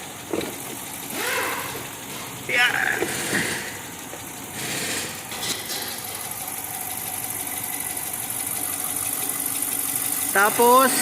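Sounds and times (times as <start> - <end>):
car engine idling with misfire: 0.0 - 11.0.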